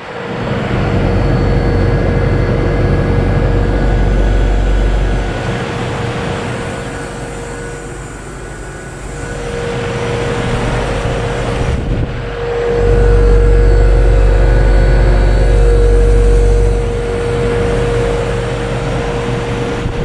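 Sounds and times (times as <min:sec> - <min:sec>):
heat pump compressor and fan hum: 0:00.0 - 0:20.0
deep rumble: 0:00.2 - 0:20.0.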